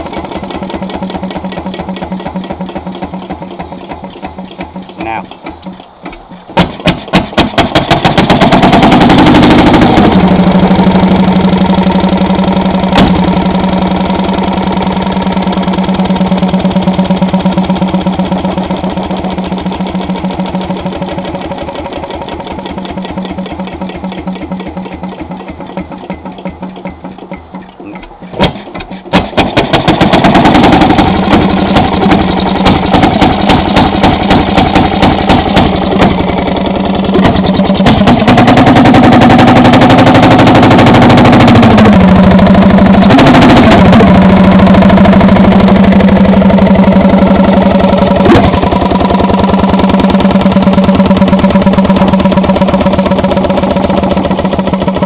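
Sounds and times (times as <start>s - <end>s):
engine cranking: 0.0s - 55.0s
engine running fast: 6.6s - 55.0s.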